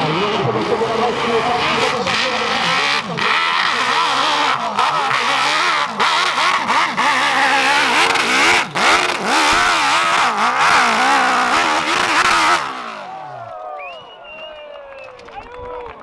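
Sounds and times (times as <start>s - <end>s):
racing engines accelerating: 0.0s - 15.4s.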